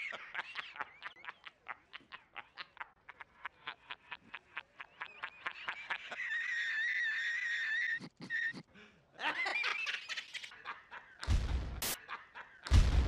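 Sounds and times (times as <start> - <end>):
man laughing hysterically: 0.0 - 12.8.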